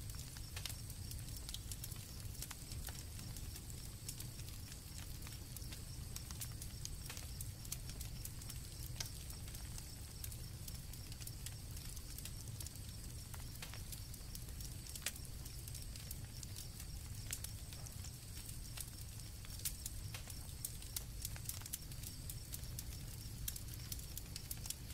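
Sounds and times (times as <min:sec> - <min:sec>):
campfire crackling and popping: 0:00.0 - 0:24.9
crickets chirring: 0:00.1 - 0:24.9.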